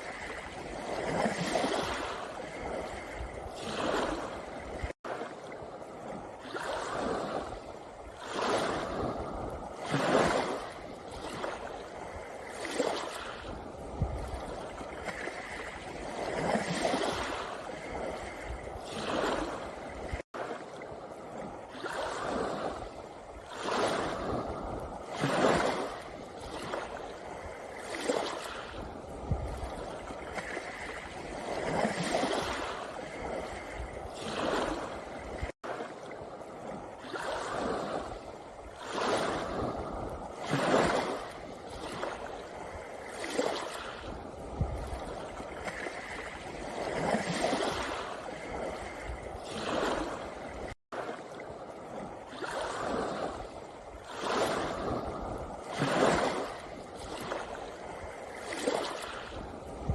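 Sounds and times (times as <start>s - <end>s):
waves washing over pebble beach: 0.0s - 5.4s, 6.0s - 20.7s, 21.6s - 36.0s, 36.6s - 51.3s, 51.9s - 59.9s.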